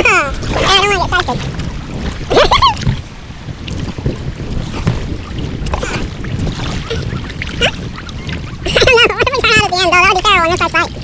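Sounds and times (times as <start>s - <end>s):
paddle strokes splashing water: 0.0s - 11.0s
wind rumbling on microphone: 0.0s - 11.0s.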